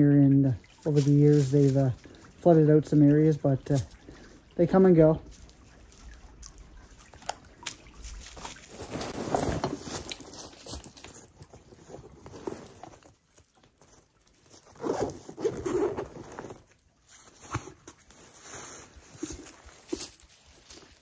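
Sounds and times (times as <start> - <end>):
camping gear rustling and scraping: 0.6 - 4.6, 5.2 - 21.0.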